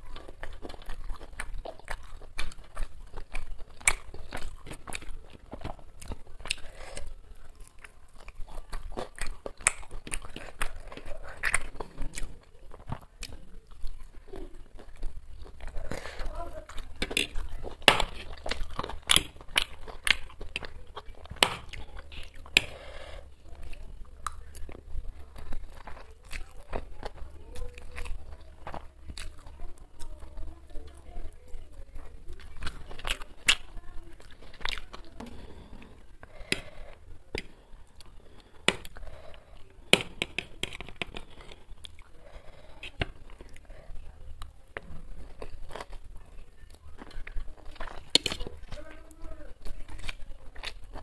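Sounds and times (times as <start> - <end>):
wet chewing mouth clicks: 0.0 - 48.8.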